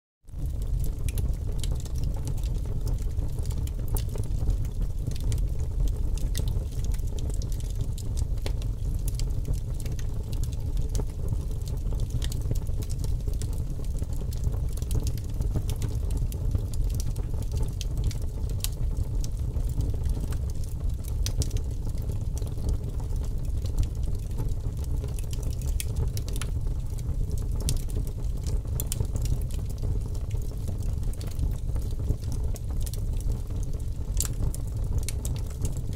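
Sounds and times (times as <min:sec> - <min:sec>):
fire crackling and popping: 0:00.3 - 0:35.9
low fire rumble: 0:00.3 - 0:35.9.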